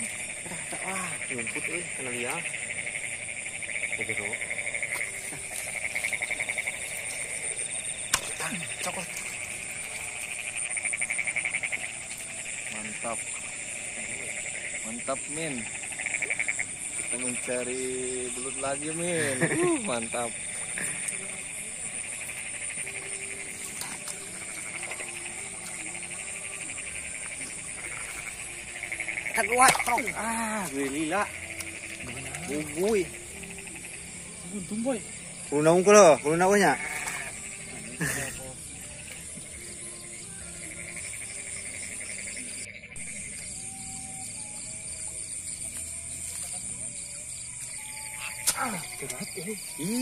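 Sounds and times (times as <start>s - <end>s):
rapidly pulsing insect trill: 0.0s - 50.0s.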